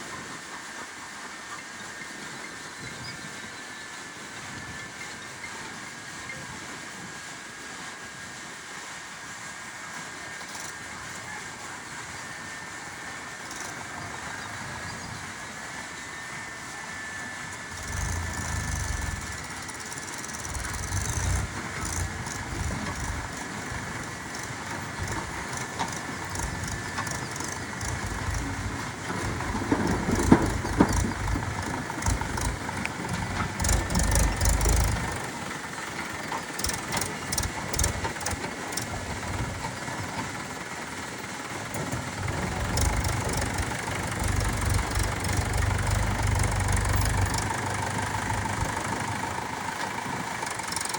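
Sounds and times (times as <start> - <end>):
diesel engine running: 9.1 - 50.9.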